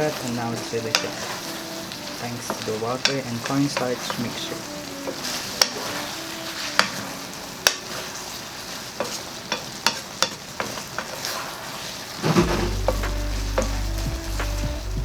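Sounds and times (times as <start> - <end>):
sauce sizzling in a pan: 0.0 - 15.0.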